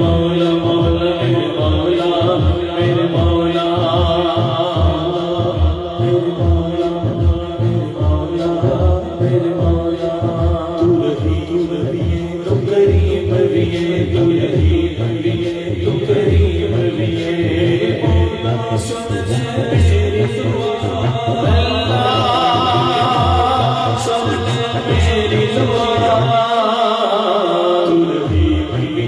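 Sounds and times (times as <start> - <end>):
steady low beat: 0.0 - 26.6
man singing into a microphone: 0.0 - 29.0.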